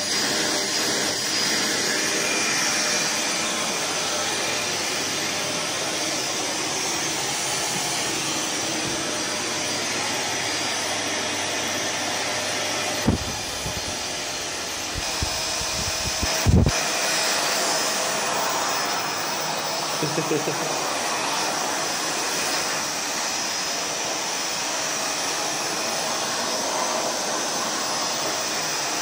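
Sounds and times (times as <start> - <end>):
vacuum cleaner running on carpet: 0.0 - 29.0.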